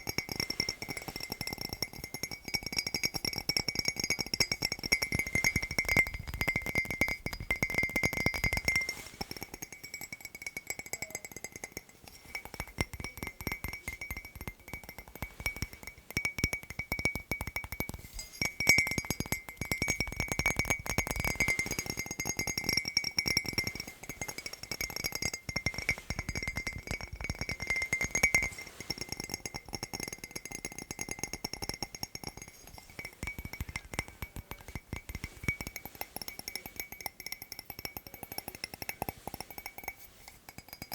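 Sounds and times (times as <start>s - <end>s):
clinking: 0.0s - 40.9s
fast tapping on hard objects: 0.0s - 40.9s.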